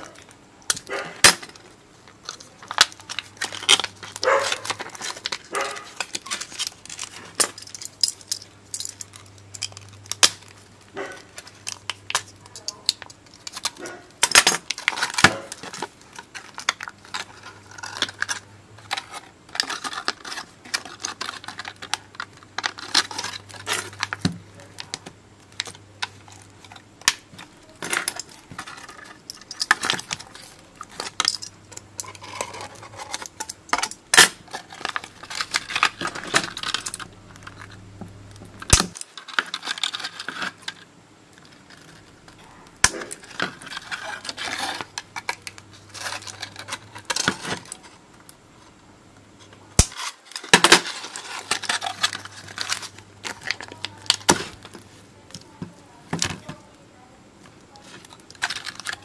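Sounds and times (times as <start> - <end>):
foil crinkling and tearing: 0.0 - 48.3, 49.8 - 55.5, 57.5 - 59.0.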